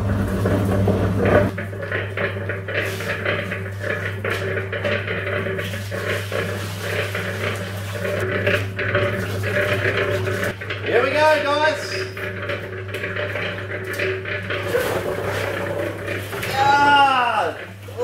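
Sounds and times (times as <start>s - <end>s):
cement mixer motor hum: 0.0s - 18.0s
steel drum rattling and clanking: 0.0s - 18.0s
water pouring into drum: 0.0s - 18.0s.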